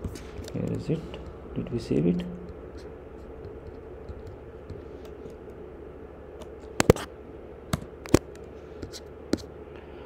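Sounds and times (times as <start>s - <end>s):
steady faint hum: 0.0s - 10.0s.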